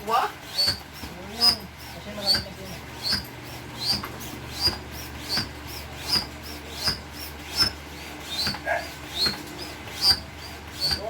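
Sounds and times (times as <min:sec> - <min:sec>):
manual air pump strokes: 0:00.0 - 0:11.0
pump squeak: 0:00.0 - 0:11.0.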